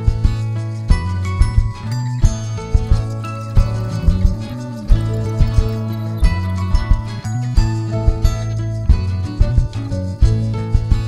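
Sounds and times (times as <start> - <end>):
upbeat music with bass: 0.0 - 11.0.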